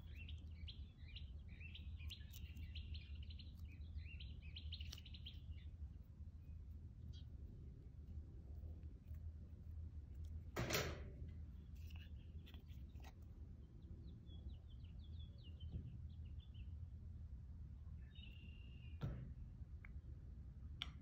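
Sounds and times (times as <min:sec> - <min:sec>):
small birds chirping: 0:00.0 - 0:10.5, 0:11.2 - 0:17.0, 0:17.8 - 0:19.0
low steady rumble: 0:00.0 - 0:21.0.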